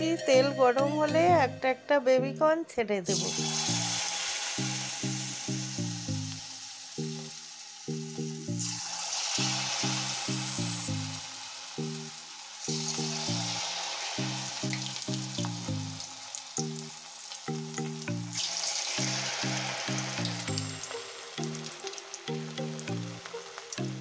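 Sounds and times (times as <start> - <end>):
food deep-frying in oil: 3.1 - 24.0.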